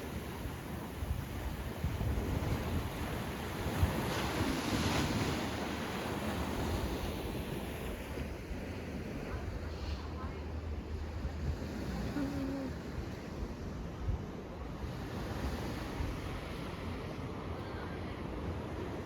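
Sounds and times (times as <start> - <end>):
wind rumbling on microphone: 0.0 - 17.5
sea waves breaking on shore: 0.0 - 19.0.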